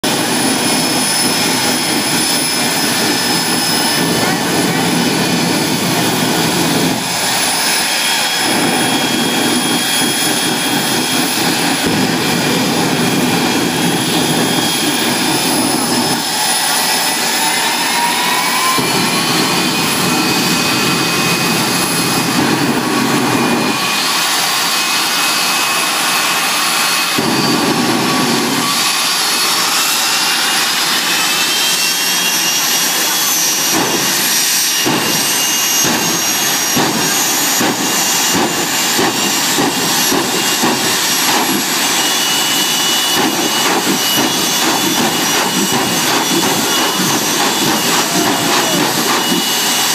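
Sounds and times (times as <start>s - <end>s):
jet turbine engines whining: 0.0s - 49.9s.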